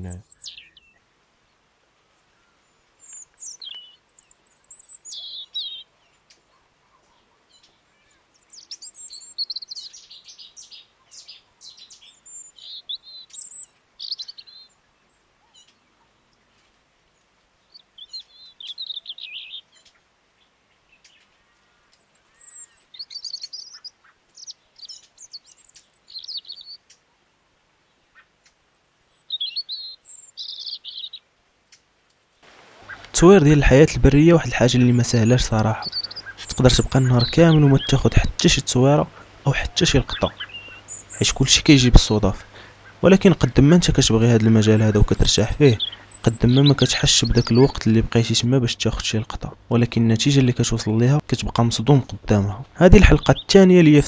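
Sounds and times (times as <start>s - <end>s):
songbird twittering: 0.0s - 1.7s, 2.3s - 16.4s, 17.2s - 27.1s, 27.8s - 31.3s, 32.4s - 54.0s.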